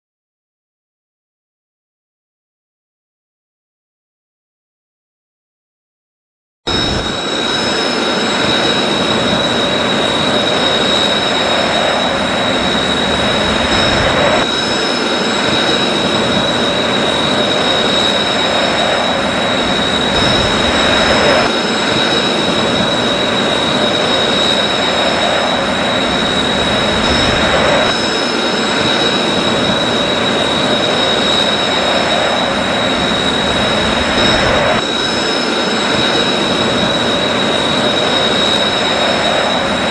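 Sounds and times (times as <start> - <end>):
jet engine turbine roar: 6.7 - 39.9.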